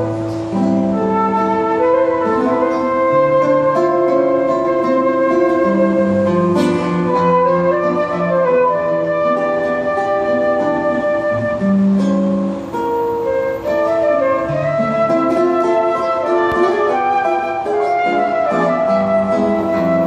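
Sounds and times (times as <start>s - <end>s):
acoustic guitar accompaniment: 0.0s - 20.0s
flute playing bossa nova melody: 0.0s - 20.0s.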